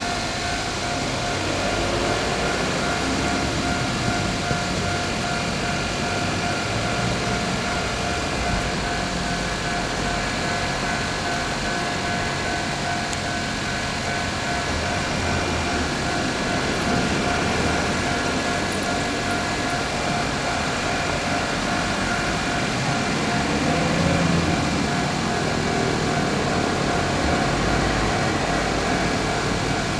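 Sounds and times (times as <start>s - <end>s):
electric train rumbling past: 0.0s - 29.9s
level crossing warning bell: 0.0s - 29.9s.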